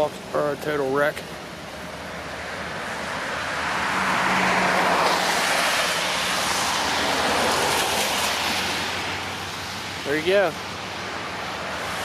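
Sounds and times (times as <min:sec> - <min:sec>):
car tyres hissing on wet road: 0:01.3 - 0:12.0.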